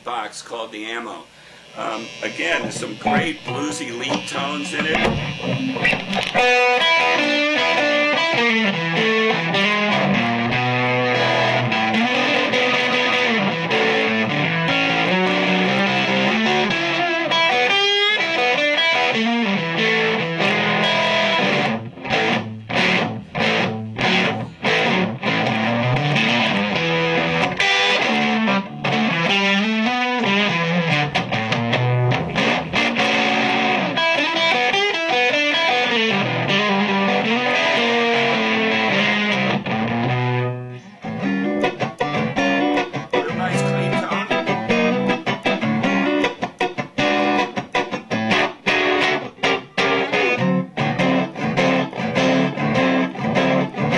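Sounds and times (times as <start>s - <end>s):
distorted electric guitar lead: 0.0s - 53.9s.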